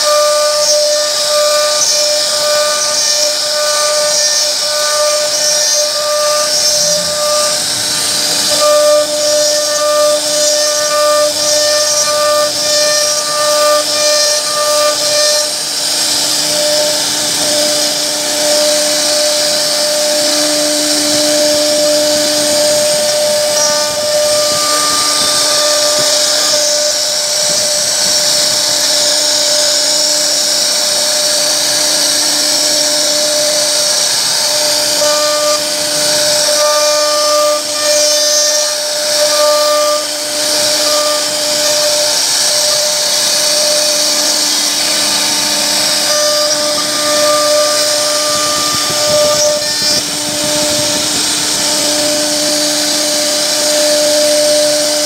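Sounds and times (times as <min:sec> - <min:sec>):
bit cutting wood hiss: 0:00.0 - 0:54.9
router spindle whine: 0:00.0 - 0:55.0.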